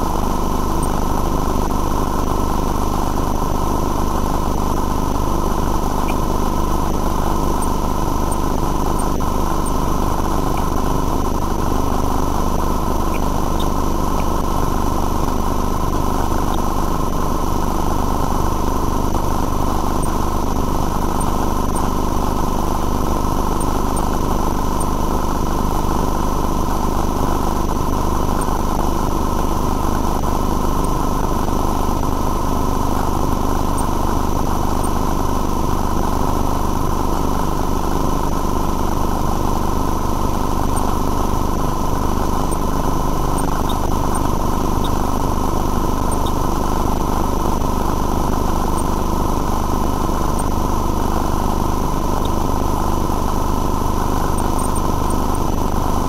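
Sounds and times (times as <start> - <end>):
machine drone with electrical hum: 0.0 - 56.0.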